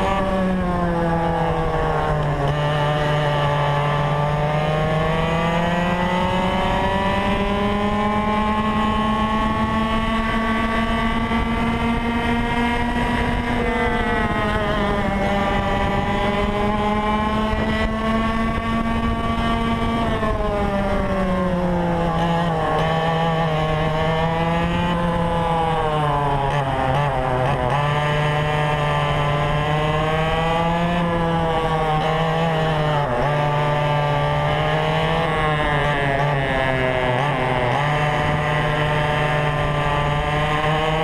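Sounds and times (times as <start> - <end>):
kart engine at race pace: 0.0 - 41.0
wind noise on microphone: 0.0 - 41.0.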